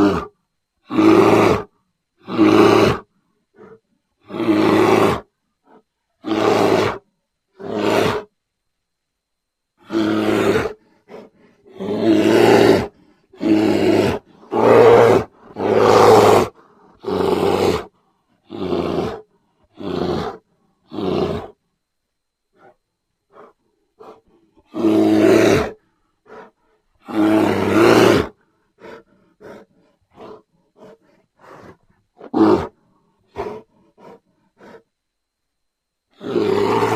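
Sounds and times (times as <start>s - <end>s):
bear grunting: 0.0s - 7.0s, 7.6s - 8.3s, 9.8s - 21.6s, 22.6s - 34.9s, 36.1s - 36.9s
bear roaring: 0.0s - 8.3s, 9.8s - 21.6s, 22.6s - 34.8s, 36.1s - 36.9s.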